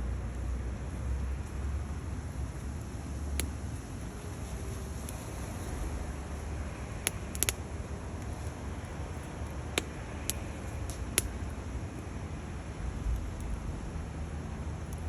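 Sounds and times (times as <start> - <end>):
low steady rumble: 0.0 - 15.0
wood fire crackling: 0.9 - 15.0.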